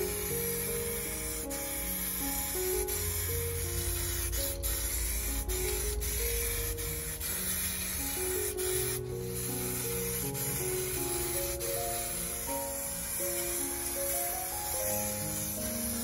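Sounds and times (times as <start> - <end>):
background music: 0.0 - 16.0
spray paint can hissing: 0.0 - 16.0.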